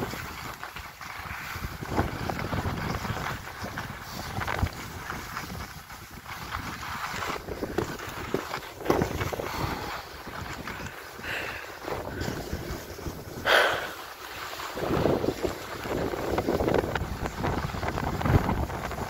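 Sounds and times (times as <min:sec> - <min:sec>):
edges scraping on snow: 0:00.0 - 0:19.0
wind rushing over microphone: 0:01.2 - 0:14.0, 0:14.7 - 0:19.0.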